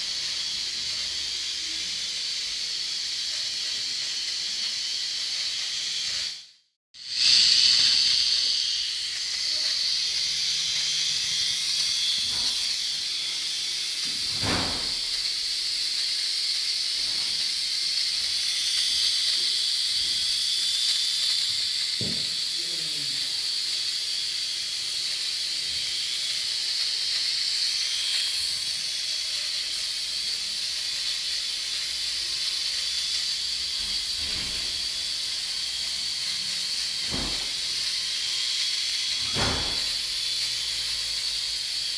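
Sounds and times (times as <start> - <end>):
toy helicopter motor whining: 0.0 - 41.9.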